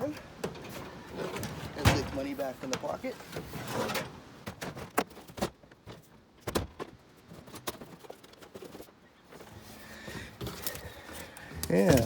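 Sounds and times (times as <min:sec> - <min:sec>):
knocks and clunks of items: 0:00.3 - 0:12.0.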